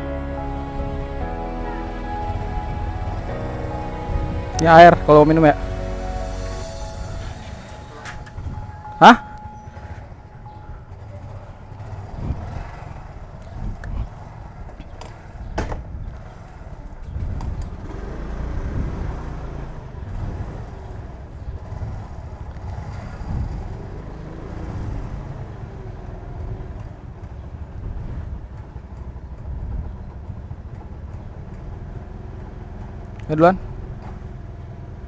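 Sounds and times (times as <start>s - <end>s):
motorcycle engine and road rumble: 0.0s - 35.0s.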